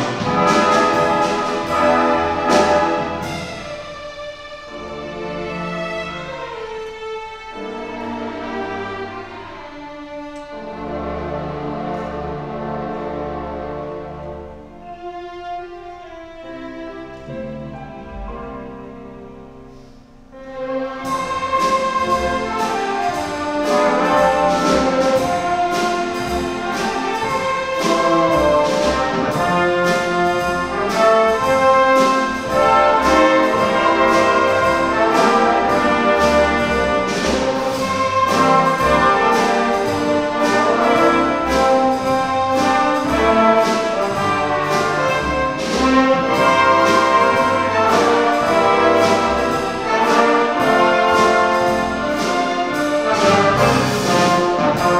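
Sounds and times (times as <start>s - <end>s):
orchestra playing brass-led passage: 0.0s - 54.9s.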